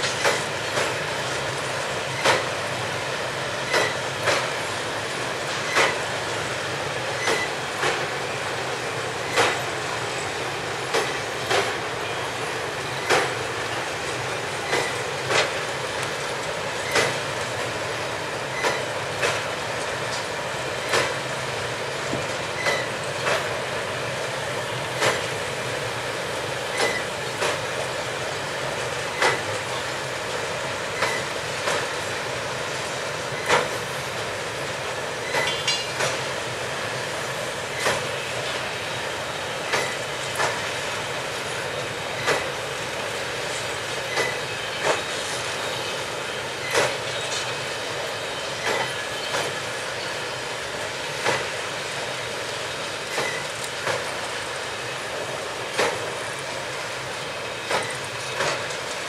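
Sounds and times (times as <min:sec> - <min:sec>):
clickety-clack over rail joints: 0:00.0 - 0:59.0
train wheels rumbling on rail: 0:00.0 - 0:59.0.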